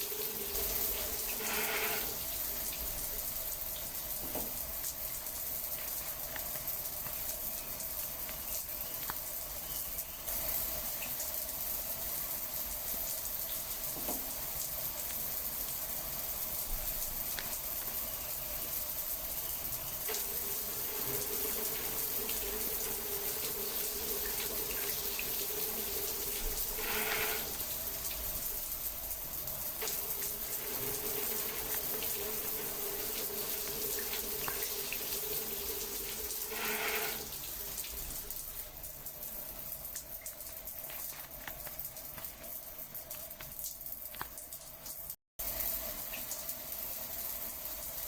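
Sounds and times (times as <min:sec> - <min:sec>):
running water flowing: 0:00.0 - 0:48.0.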